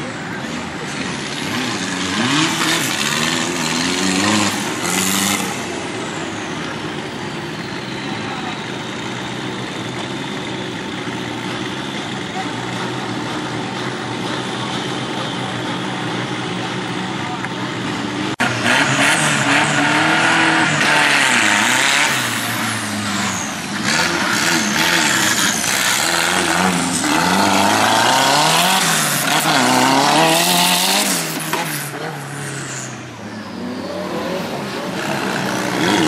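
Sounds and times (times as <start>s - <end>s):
buggy engine revving: 0.0s - 36.0s.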